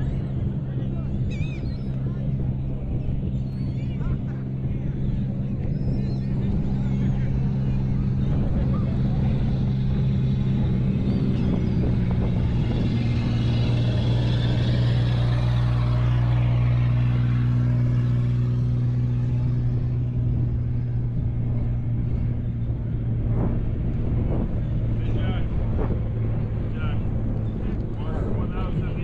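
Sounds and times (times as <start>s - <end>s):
motor engine droning: 0.0s - 29.0s.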